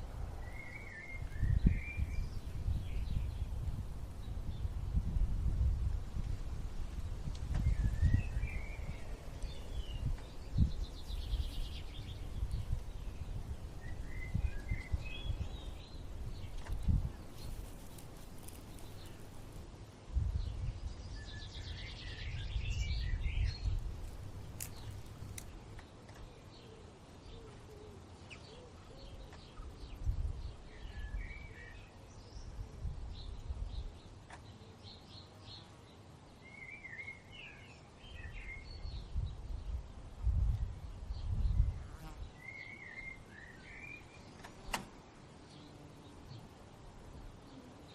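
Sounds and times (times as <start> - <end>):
small birds chirping: 0.0 - 19.7, 20.4 - 39.8, 40.6 - 47.9.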